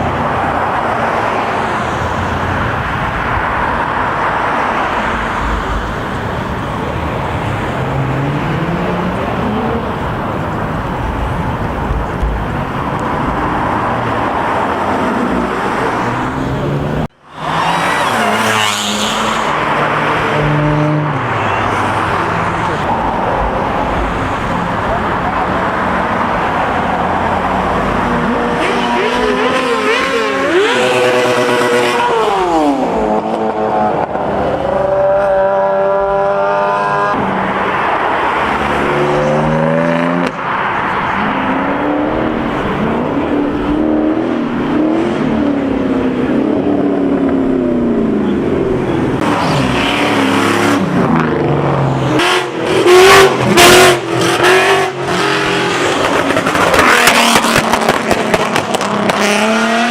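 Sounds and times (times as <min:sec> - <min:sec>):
car engines revving and accelerating: 0:00.0 - 0:59.9.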